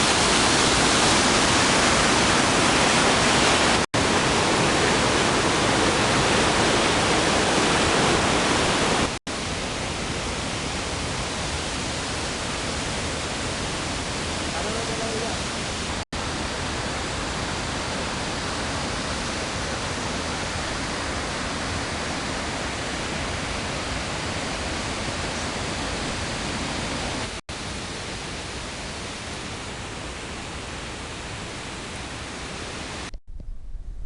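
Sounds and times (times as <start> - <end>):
rushing water hiss: 0.0 - 33.1.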